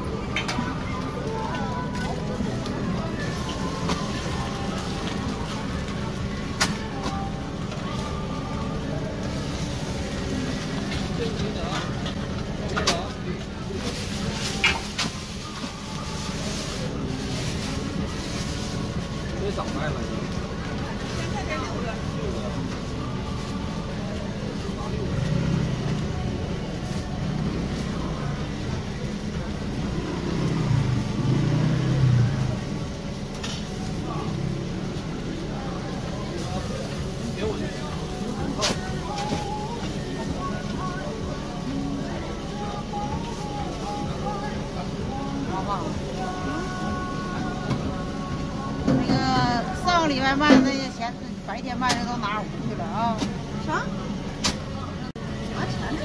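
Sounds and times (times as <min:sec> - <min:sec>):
low rumble of traffic: 0:00.0 - 0:56.0.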